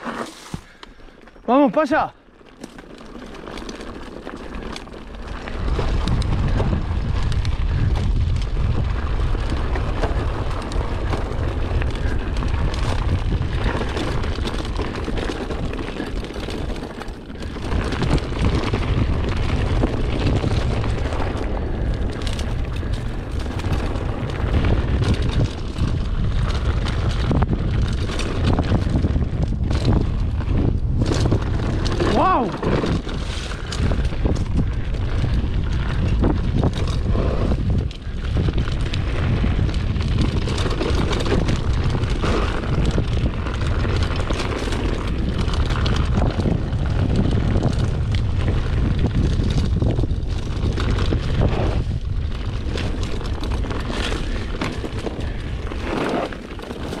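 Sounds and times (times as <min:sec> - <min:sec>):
tyres on dirt and stones: 0:00.0 - 0:57.0
bike knocks and rattles: 0:02.4 - 0:57.0
wind rumble on microphone: 0:03.6 - 0:57.0.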